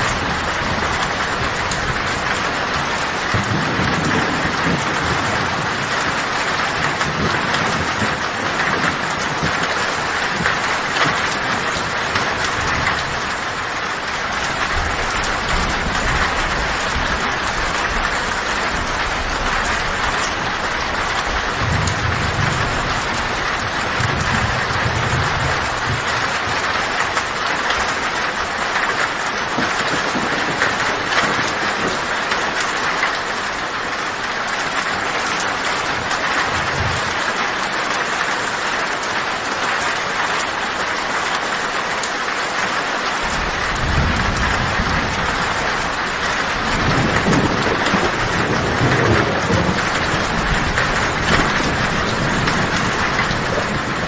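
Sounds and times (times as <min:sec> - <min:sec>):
low thunder rumbles: 0:00.0 - 0:37.9, 0:43.2 - 0:54.0
heavy rain on a tin roof: 0:00.0 - 0:54.0.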